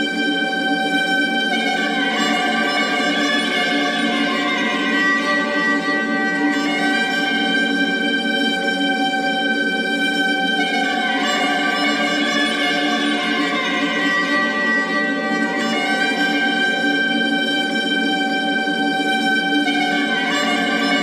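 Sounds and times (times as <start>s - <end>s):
bowed violin tones: 0.0s - 21.0s.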